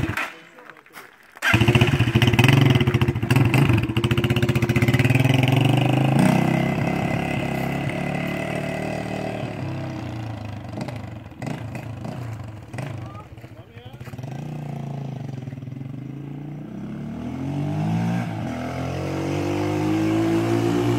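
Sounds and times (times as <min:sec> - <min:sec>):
motorcycle engine running: 0:01.4 - 0:20.9.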